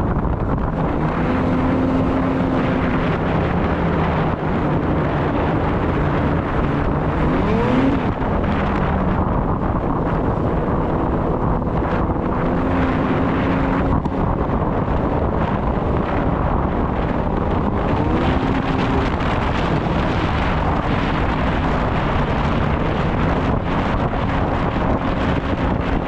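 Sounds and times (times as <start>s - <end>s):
snowmobile engine running: 0.0s - 26.0s
wind noise on microphone: 0.0s - 26.0s.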